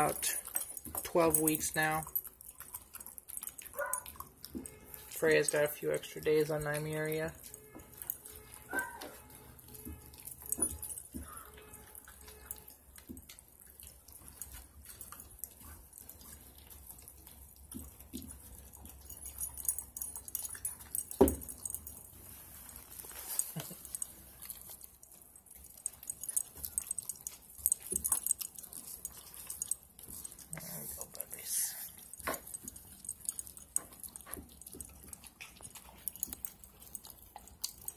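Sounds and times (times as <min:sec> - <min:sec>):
puppies chewing bones: 0:00.0 - 0:37.9.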